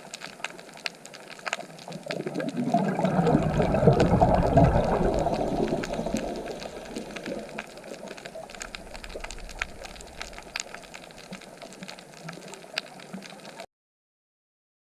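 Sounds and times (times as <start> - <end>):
faint wash of water: 0.0 - 13.6
gurgling water: 0.0 - 13.7.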